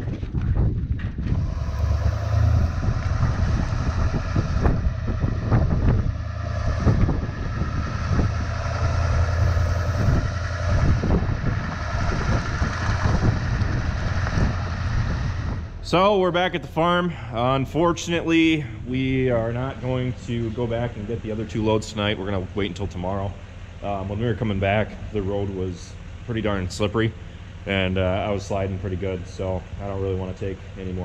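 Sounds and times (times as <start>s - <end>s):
truck engine and tyres rumbling: 0.0s - 31.0s.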